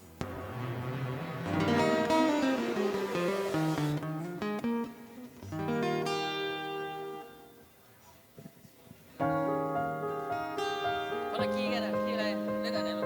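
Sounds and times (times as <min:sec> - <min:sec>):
acoustic guitar notes and chords: 0:00.0 - 0:07.9, 0:09.2 - 0:13.0.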